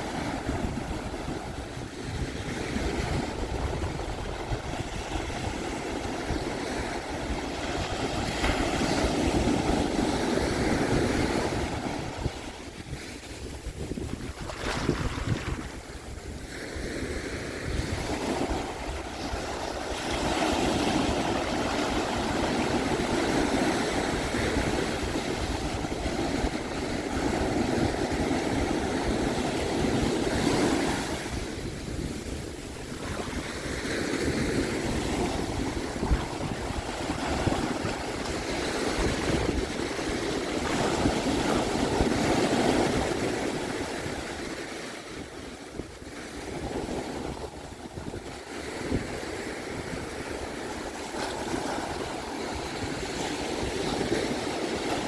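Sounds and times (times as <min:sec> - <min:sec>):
ocean surf washing onto beach: 0:00.0 - 0:55.0
wind rumbling on microphone: 0:00.0 - 0:55.0.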